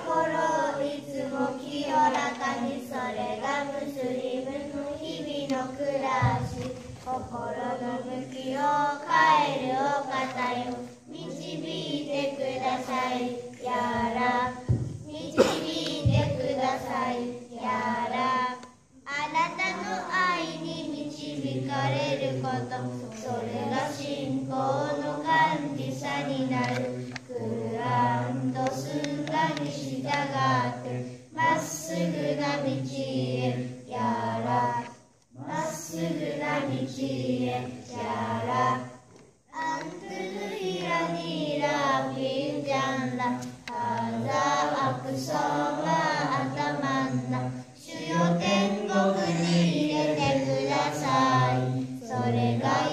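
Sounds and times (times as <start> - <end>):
children singing together: 0.0 - 52.9.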